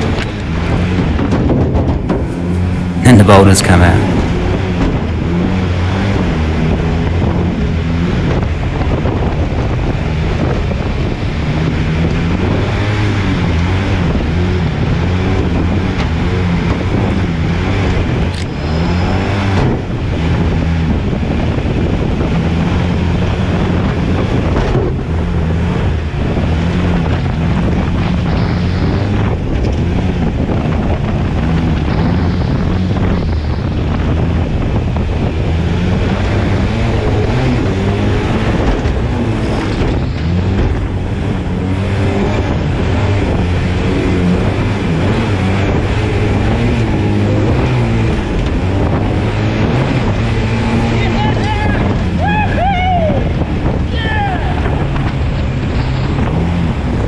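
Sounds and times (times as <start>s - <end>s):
wind buffeting microphone: 0.0s - 3.1s, 4.1s - 57.0s
jet boat engine running hard: 0.0s - 57.0s.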